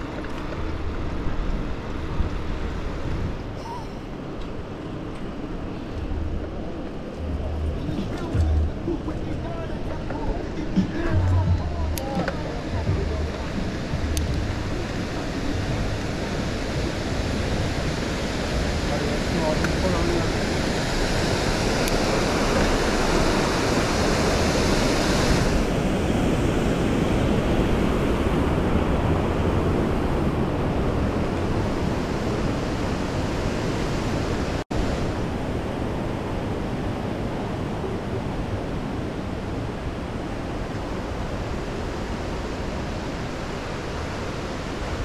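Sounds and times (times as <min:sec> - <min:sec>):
wind noise on microphone: 0:00.0 - 0:45.0
waterfall rushing water: 0:03.4 - 0:45.0.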